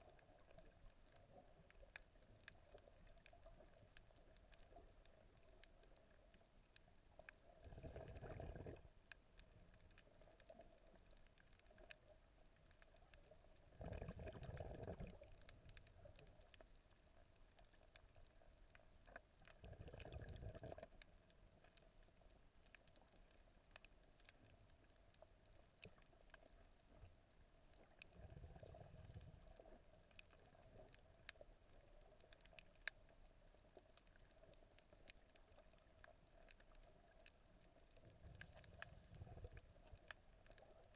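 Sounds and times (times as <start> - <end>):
low underwater hum: 0.0 - 40.9.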